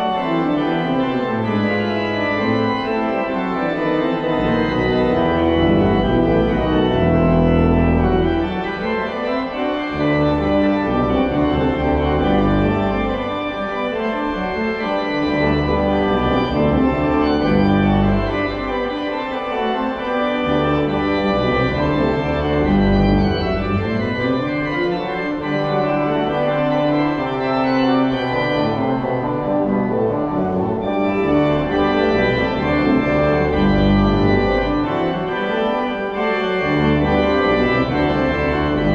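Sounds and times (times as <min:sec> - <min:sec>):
church organ playing chords: 0:00.0 - 0:38.9.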